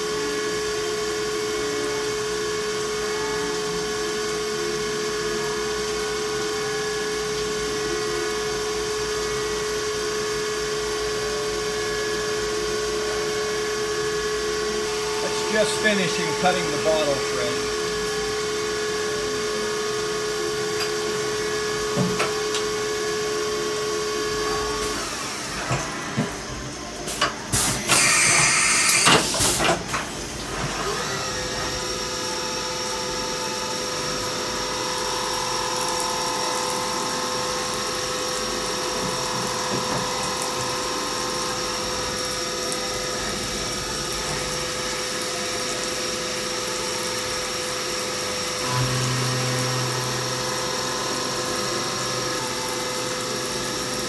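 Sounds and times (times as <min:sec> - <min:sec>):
milling machine spindle whine: 0:00.1 - 0:29.4, 0:30.1 - 0:54.0.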